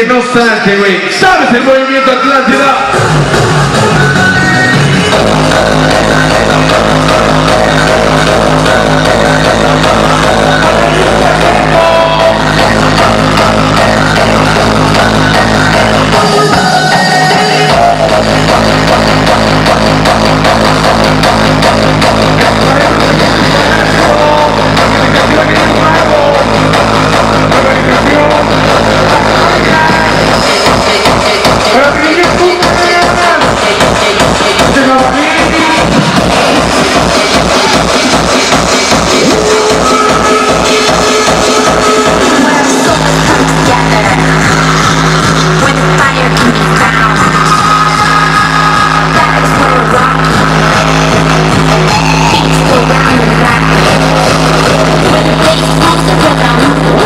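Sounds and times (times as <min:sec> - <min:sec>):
loud dance music: 0:00.0 - 0:57.0.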